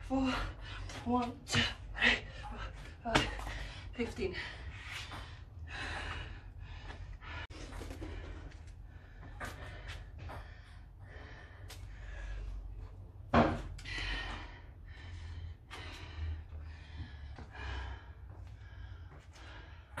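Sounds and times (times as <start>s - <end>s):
woman breathing hard: 0.0s - 20.0s.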